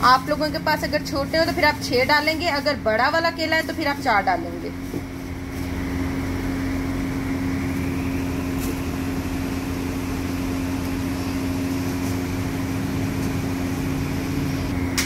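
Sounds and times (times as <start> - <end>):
electric motor humming: 0.0 - 15.0.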